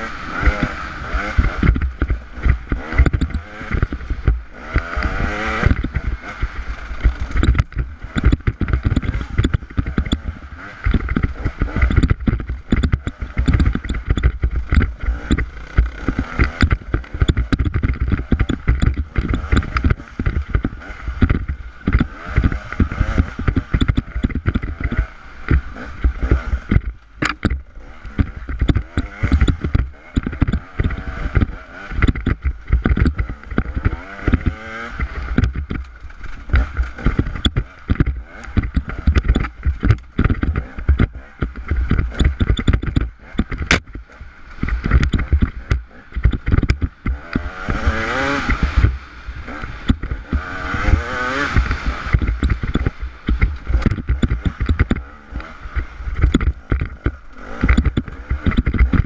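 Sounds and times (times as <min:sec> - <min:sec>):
motorcycle engine revving: 0:00.0 - 0:59.0
knocks from rocks: 0:00.4 - 0:44.0, 0:44.6 - 0:59.0.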